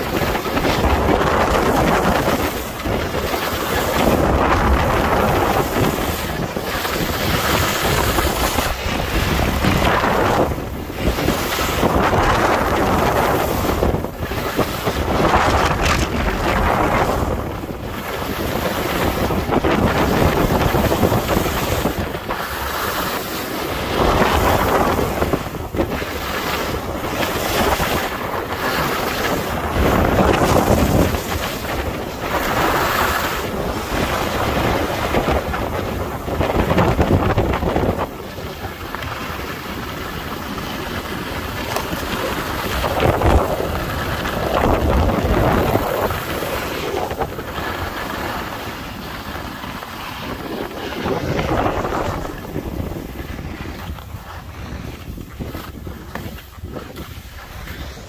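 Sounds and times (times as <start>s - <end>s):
skis carving snow: 0.0s - 58.0s
wind rushing over microphone: 0.0s - 58.0s.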